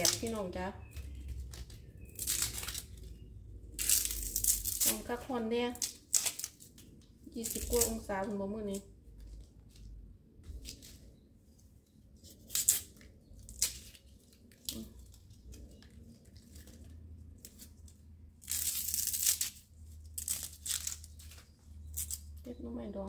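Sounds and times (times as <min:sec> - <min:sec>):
bamboo sheaths tearing: 0:00.0 - 0:11.1, 0:12.2 - 0:22.4.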